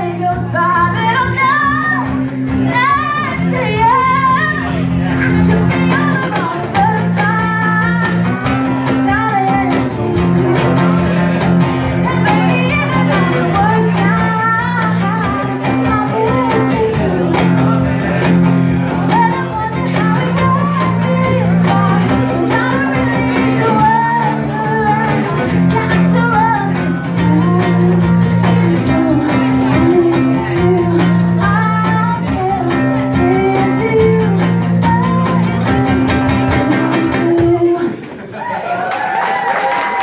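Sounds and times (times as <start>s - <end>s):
woman singing into microphone: 0.0s - 11.1s, 12.0s - 17.8s, 19.0s - 38.0s
strummed acoustic guitar: 0.0s - 37.8s.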